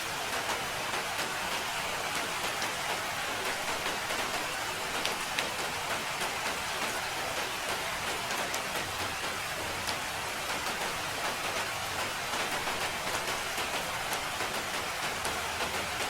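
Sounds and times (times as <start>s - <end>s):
rain pattering on a surface: 0.0s - 16.0s.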